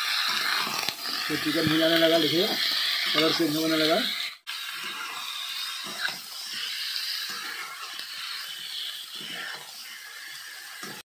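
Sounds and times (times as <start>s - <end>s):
chicken sizzling in hot oil: 0.0s - 11.0s
metal spatula scraping: 0.0s - 11.0s.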